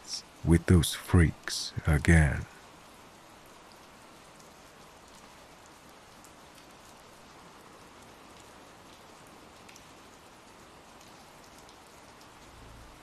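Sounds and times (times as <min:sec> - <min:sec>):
rain hiss: 0:00.0 - 0:13.0
raindrops ticking: 0:00.0 - 0:13.0.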